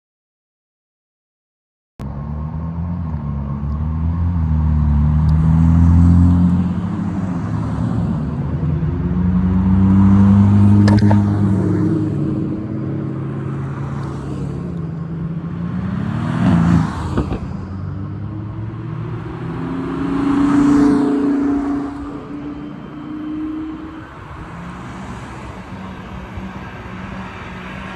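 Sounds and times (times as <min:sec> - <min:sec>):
car engine revving: 0:02.0 - 0:27.9.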